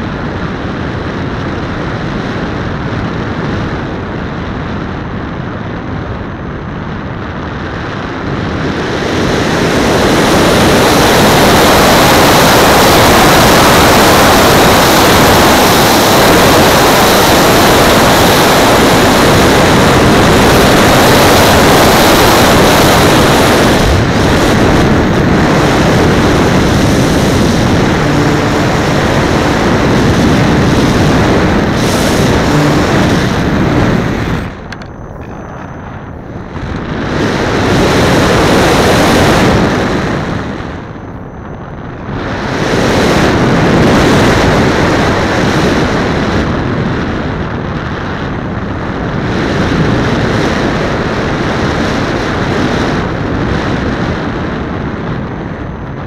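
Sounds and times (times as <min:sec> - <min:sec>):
air rushing over camera: 0:00.0 - 0:56.0
faint high whine: 0:00.0 - 0:56.0.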